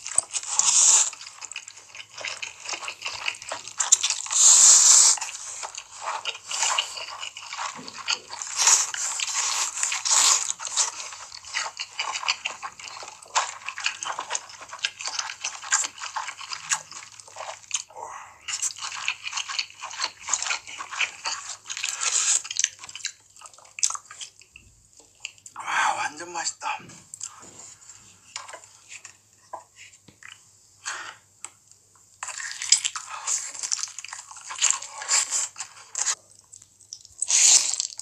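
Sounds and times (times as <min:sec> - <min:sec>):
chewing crunchy food: 0:00.0 - 0:25.6, 0:26.6 - 0:38.0.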